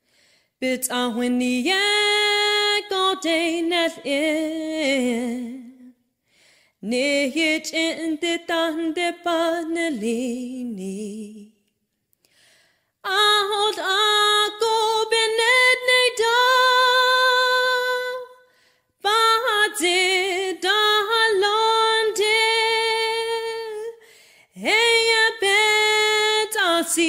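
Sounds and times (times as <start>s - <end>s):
woman singing unaccompanied: 0.6s - 5.9s, 6.8s - 11.5s, 13.1s - 18.4s, 19.0s - 24.0s, 24.6s - 27.0s.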